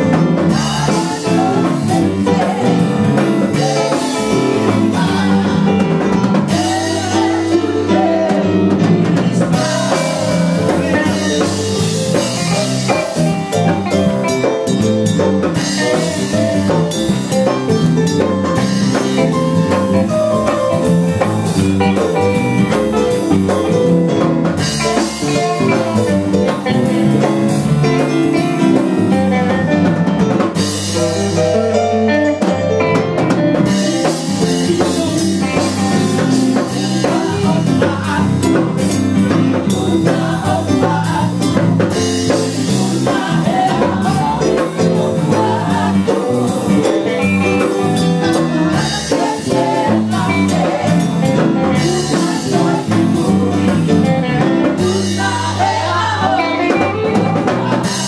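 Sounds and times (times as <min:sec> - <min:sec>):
drum kit: 0:00.0 - 0:58.0
electric and acoustic guitars: 0:00.0 - 0:58.0
keyboard: 0:00.0 - 0:58.0.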